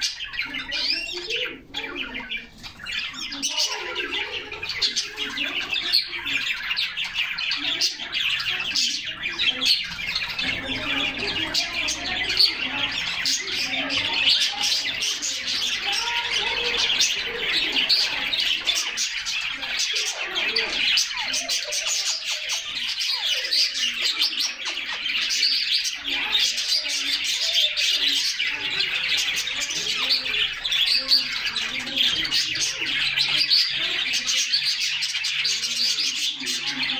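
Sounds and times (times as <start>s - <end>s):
canaries chirping: 0.0s - 36.9s.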